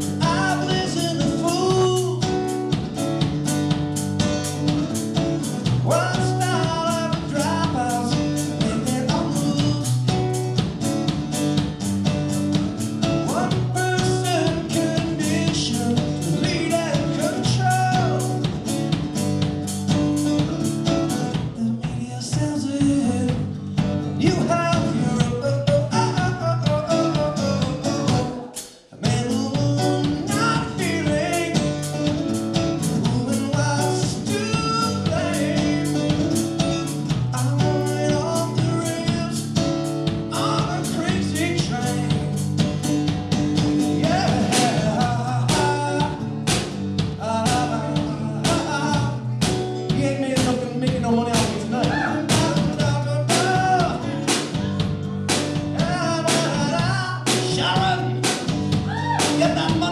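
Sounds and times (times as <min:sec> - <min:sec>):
man singing: 0:00.0 - 0:03.0, 0:04.8 - 0:10.5, 0:13.0 - 0:18.9, 0:20.2 - 0:43.0, 0:43.6 - 0:59.9
kick drum and cymbal beat: 0:00.0 - 0:24.2, 0:24.8 - 0:59.9
strummed acoustic guitar: 0:00.0 - 0:59.9.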